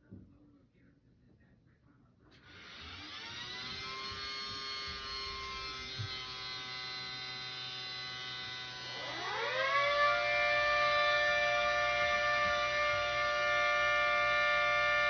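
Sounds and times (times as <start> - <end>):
siren winding up wail: 2.6 - 15.0
electromechanical siren steady tone: 2.8 - 15.0.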